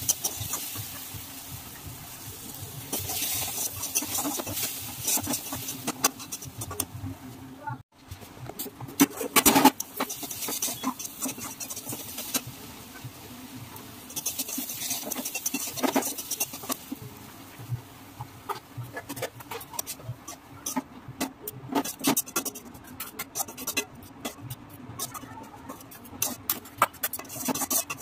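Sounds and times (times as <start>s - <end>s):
metal spatula scraping a wok: 0.0s - 1.8s, 2.4s - 6.9s, 8.9s - 13.0s, 14.0s - 17.0s, 18.5s - 28.0s.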